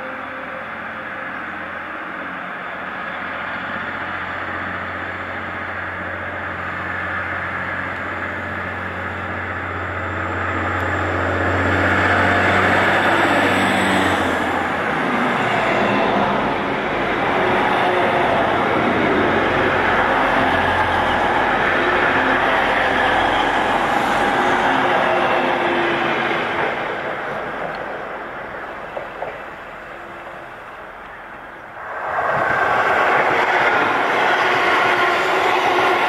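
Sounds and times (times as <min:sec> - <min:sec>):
rail noise: 0:00.0 - 0:36.0
train passing: 0:00.0 - 0:36.0.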